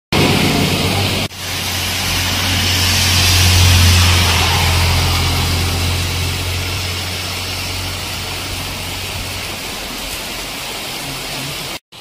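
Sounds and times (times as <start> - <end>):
truck engine driving away: 0.2 - 10.4
heavy rain on wet road: 0.2 - 12.0.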